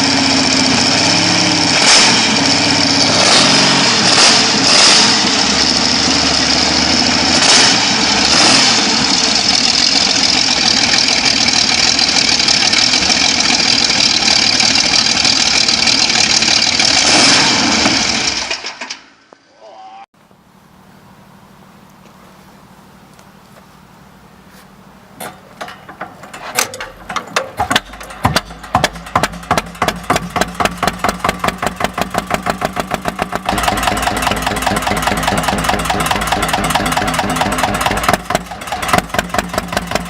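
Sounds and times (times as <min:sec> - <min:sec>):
engine running loudly: 0:00.0 - 0:18.7, 0:25.2 - 0:40.0.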